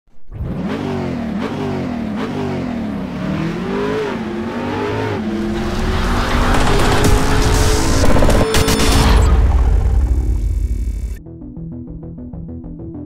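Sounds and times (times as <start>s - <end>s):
car engine revving: 0.3s - 11.2s.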